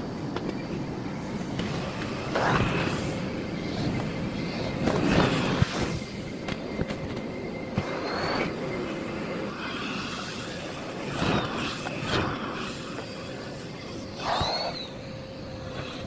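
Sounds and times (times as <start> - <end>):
vacuum cleaner running: 1.5 - 16.0.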